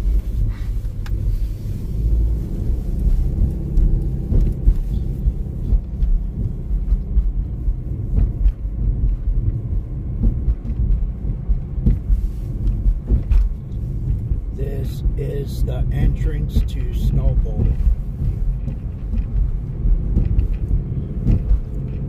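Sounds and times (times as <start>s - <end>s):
car driving on wet road: 0.0s - 22.0s.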